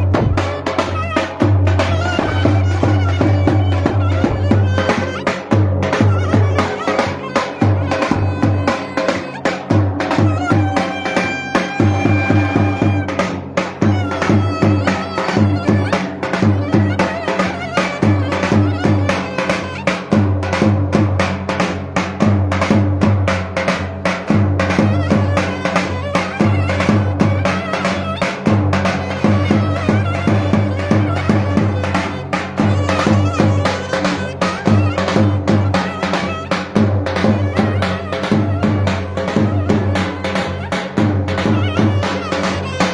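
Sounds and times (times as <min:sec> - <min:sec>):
clarinet melody: 0:00.0 - 0:13.2, 0:13.8 - 0:20.0, 0:24.8 - 0:42.9
deep drum beats: 0:00.0 - 0:42.9.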